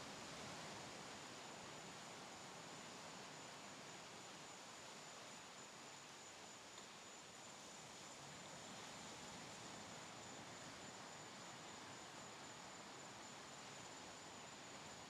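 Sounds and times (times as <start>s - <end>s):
distant ocean surf hiss: 0.0s - 15.0s.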